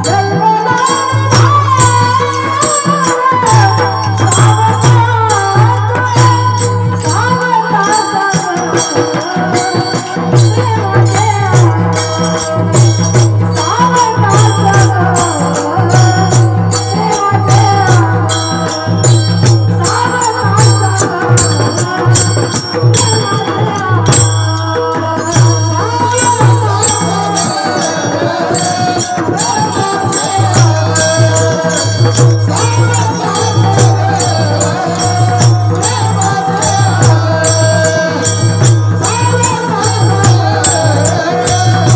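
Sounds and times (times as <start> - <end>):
hand drum fast rhythm: 0.0 - 41.9
person singing melody: 0.0 - 41.9.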